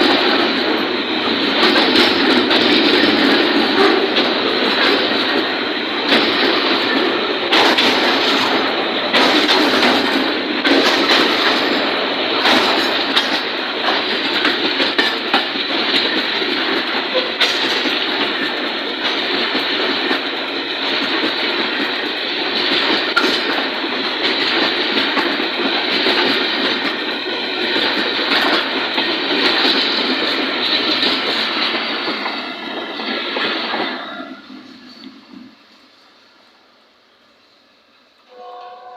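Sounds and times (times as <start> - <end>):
wheels clacking on rail joints: 0.0 - 35.4
train wheels rolling on rail: 0.0 - 38.9.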